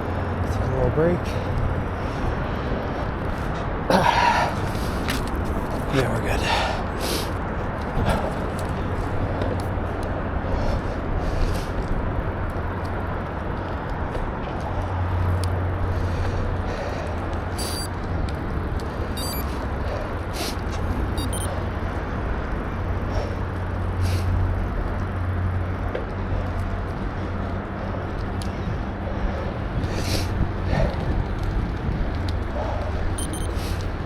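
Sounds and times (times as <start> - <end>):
bicycle tyre rumble: 0.0 - 34.0
wind buffeting microphone: 0.0 - 34.0.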